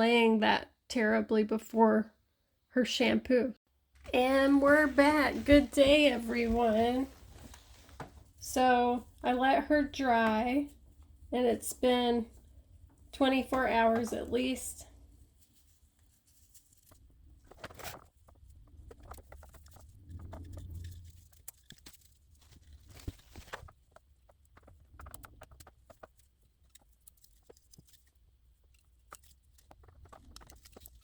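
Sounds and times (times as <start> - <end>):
rustling of handled doll hair: 3.8 - 31.0.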